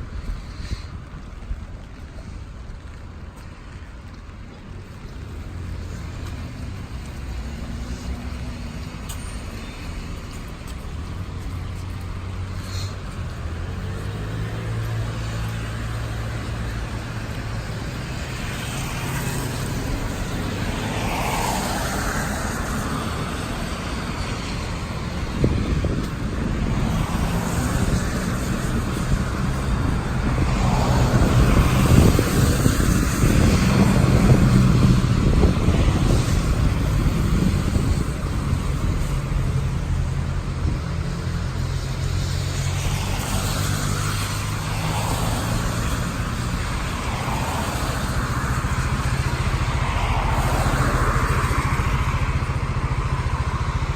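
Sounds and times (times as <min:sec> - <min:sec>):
tyres hissing on wet road: 0:00.0 - 0:53.9
vehicle engine: 0:00.0 - 0:53.9.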